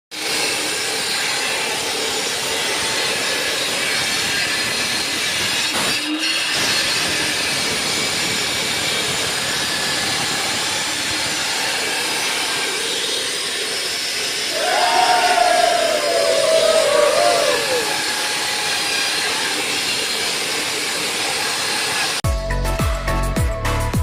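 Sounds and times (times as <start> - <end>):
power saw cutting concrete: 0.1 - 22.2.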